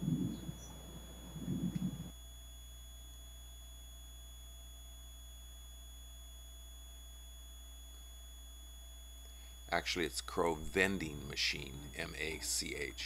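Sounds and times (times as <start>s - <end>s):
faint high-pitched electronic tones: 0.0s - 13.0s
low hum: 0.0s - 13.0s.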